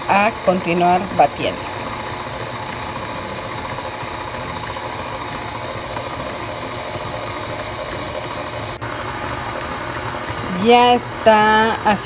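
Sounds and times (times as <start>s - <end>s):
stand mixer motor running: 0.0s - 12.0s.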